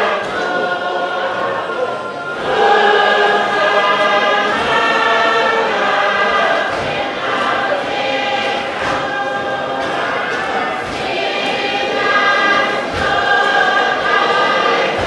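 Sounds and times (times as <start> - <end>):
group singing in chorus: 0.0 - 15.0.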